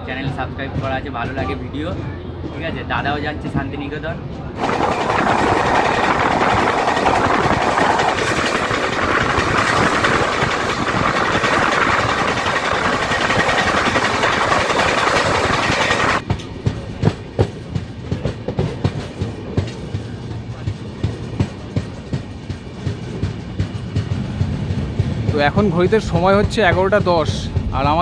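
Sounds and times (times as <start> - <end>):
train wheel and wind rush: 0.0 - 28.0
wheels clacking over rail joints: 4.6 - 27.7.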